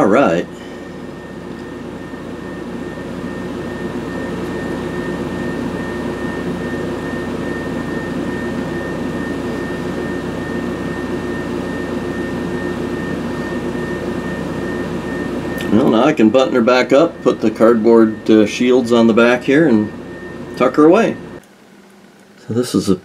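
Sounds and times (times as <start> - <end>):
refrigerator compressor humming: 0.0 - 23.0.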